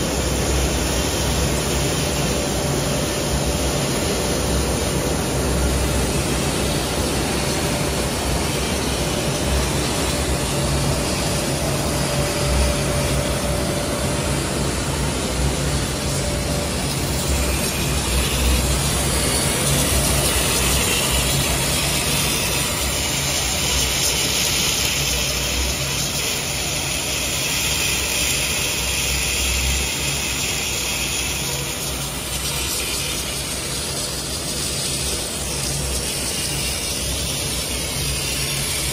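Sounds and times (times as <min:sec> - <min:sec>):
machine humming: 0:00.0 - 0:38.9.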